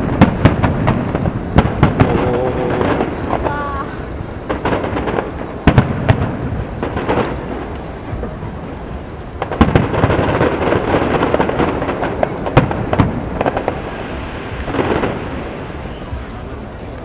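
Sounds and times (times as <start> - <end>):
fireworks bangs: 0.0 - 17.0
fireworks crackle and rumble: 0.0 - 17.0.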